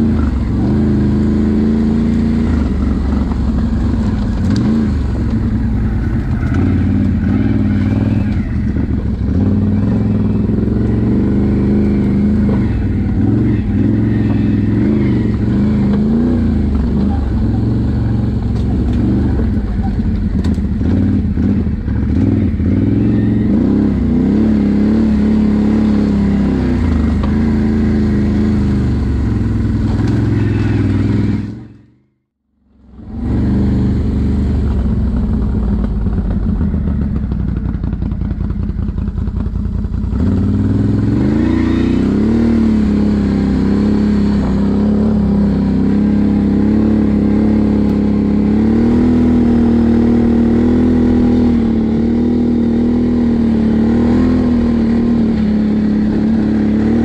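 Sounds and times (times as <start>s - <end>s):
atv engine revving: 0.0s - 31.9s, 32.7s - 57.0s.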